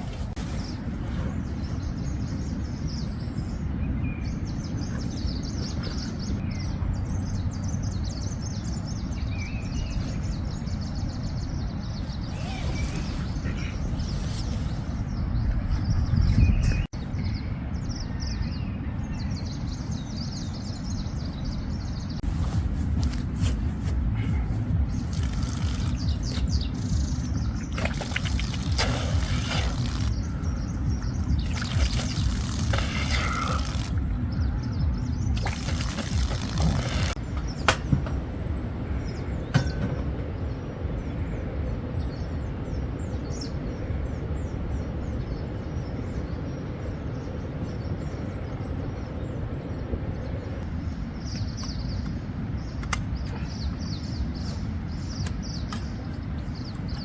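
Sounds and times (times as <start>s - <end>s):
wind: 0.0s - 57.0s.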